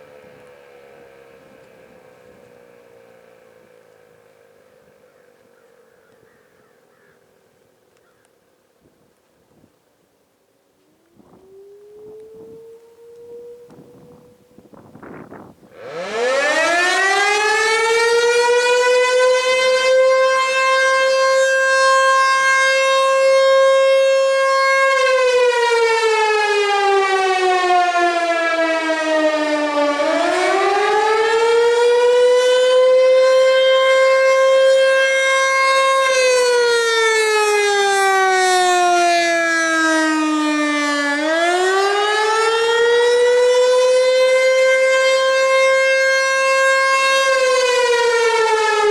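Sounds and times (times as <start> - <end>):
warning siren wailing: 0.0 - 7.0, 10.8 - 48.9.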